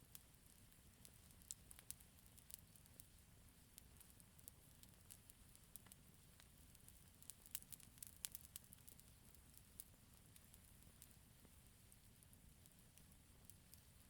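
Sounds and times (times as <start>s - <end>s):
low rumble of burning: 0.0s - 14.0s
campfire crackling: 0.1s - 14.0s.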